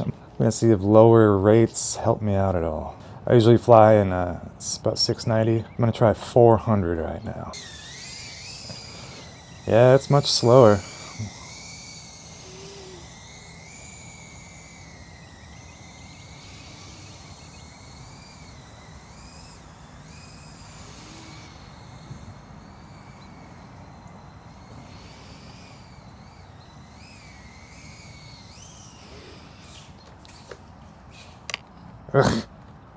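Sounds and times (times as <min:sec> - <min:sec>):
quadcopter motors whining: 0:00.0 - 0:32.5
low steady hiss: 0:00.0 - 0:32.9.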